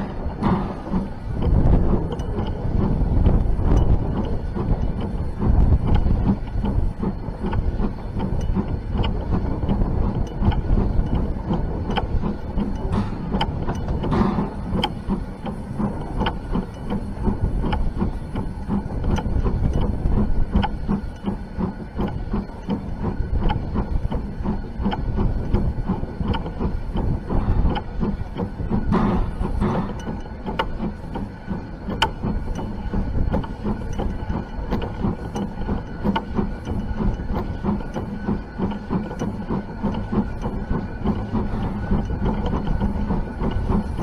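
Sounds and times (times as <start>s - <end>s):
wheels clicking over rail joints: 0.0s - 21.4s, 22.0s - 44.0s
steam locomotive rumble: 0.0s - 44.0s.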